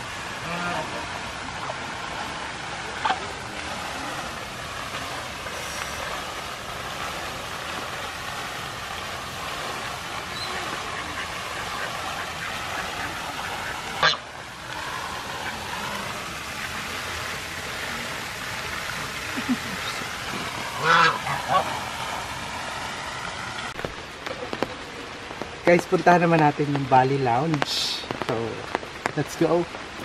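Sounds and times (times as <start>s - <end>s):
fountain splashing: 0.0s - 30.0s.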